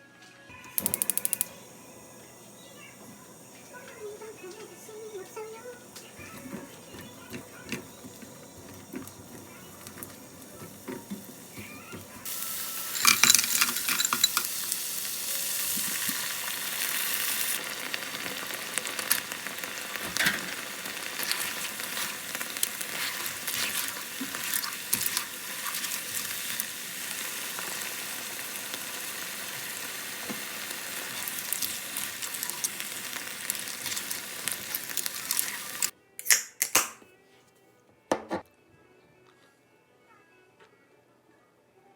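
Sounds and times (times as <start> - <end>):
food sizzling in a pan: 0.7 - 35.9.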